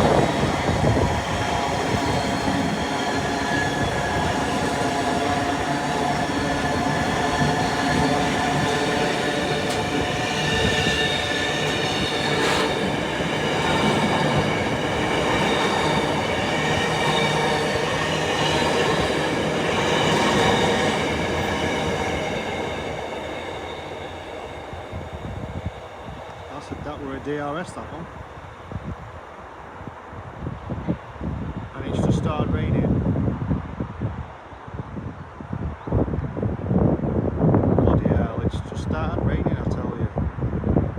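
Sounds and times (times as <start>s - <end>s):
train passing: 0.0s - 34.8s.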